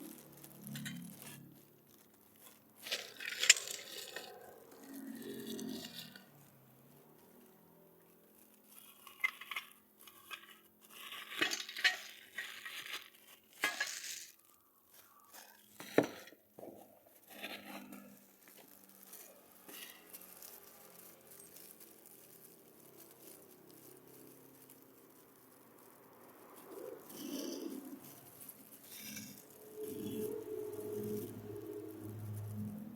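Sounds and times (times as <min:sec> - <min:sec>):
clicks of small hard objects: 0:00.0 - 0:32.9
rustling and crinkling: 0:00.0 - 0:32.9.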